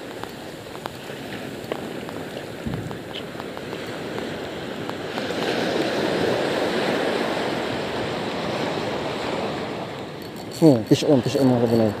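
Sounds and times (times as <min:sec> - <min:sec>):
waves breaking on a beach: 0:00.0 - 0:12.0.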